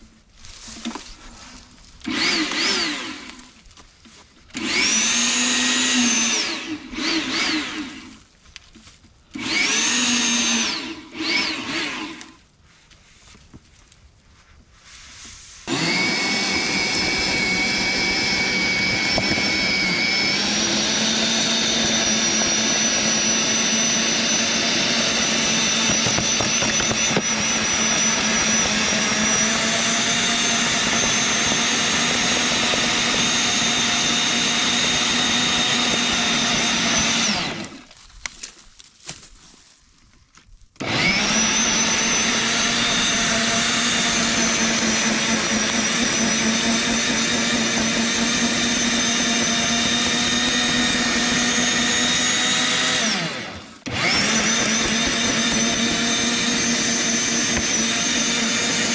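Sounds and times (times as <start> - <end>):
electric tiller motor whine: 0.0 - 12.5, 15.6 - 38.4, 40.7 - 58.9.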